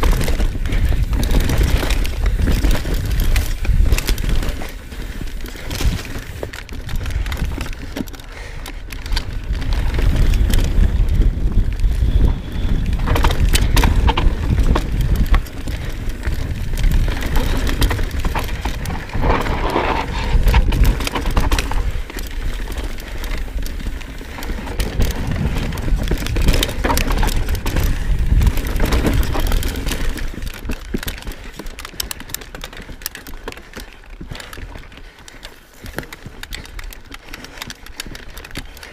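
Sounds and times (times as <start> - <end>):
wind rumble on microphone: 0.0 - 35.1
bike chain and frame clattering: 0.0 - 38.9
bike tyres rolling over dirt: 0.0 - 38.9.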